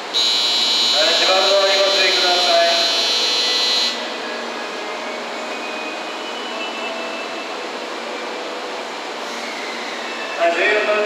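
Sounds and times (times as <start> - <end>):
train whirring hum: 0.0 - 11.0.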